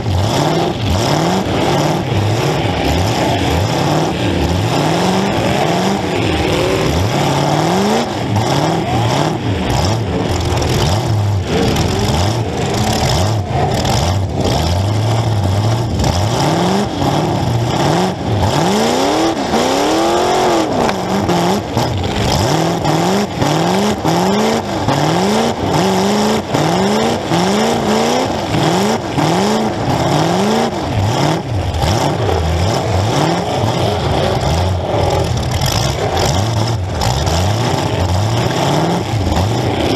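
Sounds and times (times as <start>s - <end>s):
car engine revving hard: 0.0s - 39.9s.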